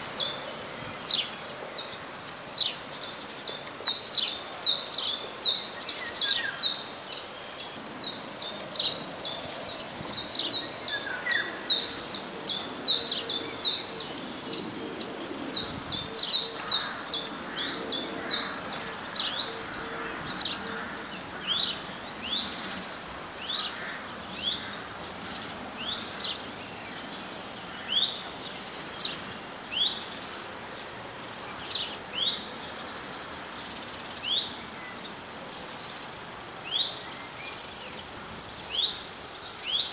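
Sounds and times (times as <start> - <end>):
faint outdoor hiss: 0.0 - 39.9
small songbirds chirping: 0.0 - 39.9.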